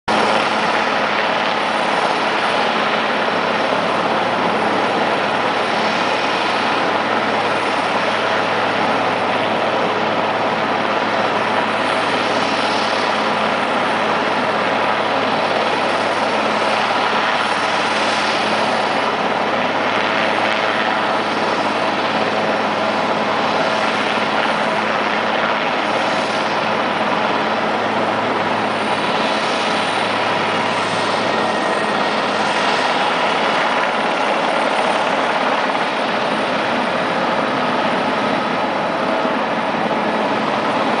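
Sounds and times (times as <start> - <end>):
helicopter hovering: 0.1 - 41.0.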